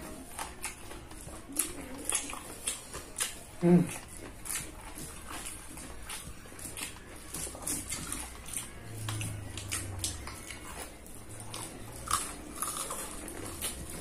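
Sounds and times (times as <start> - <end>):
chewing and crunching: 0.0 - 14.0.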